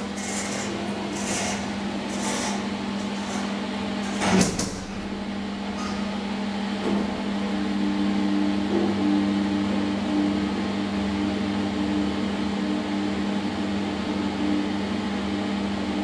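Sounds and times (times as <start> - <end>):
steady hum: 0.0 - 13.5.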